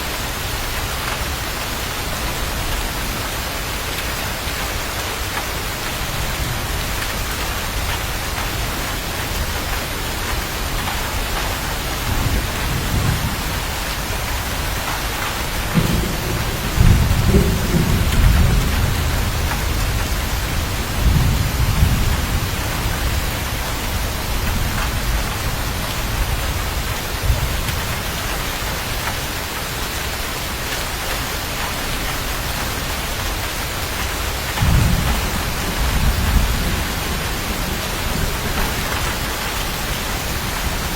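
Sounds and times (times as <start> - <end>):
heavy rain: 0.0 - 40.9
thunder rumbling: 2.1 - 28.5, 33.1 - 40.9.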